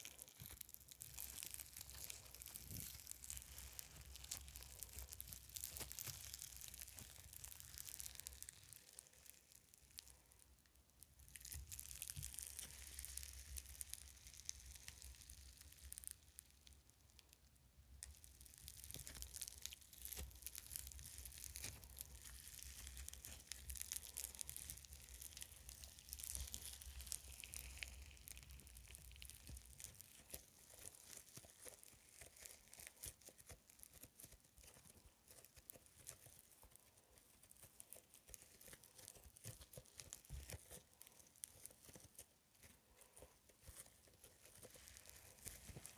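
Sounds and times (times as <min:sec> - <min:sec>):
foam slime crackling: 0:00.0 - 0:45.9.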